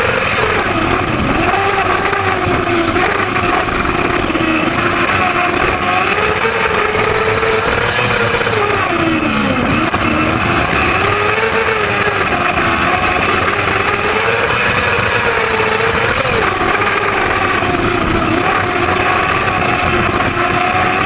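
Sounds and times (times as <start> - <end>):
motorcycle engine running hard: 0.0 - 21.0
rush of noise: 0.0 - 21.0.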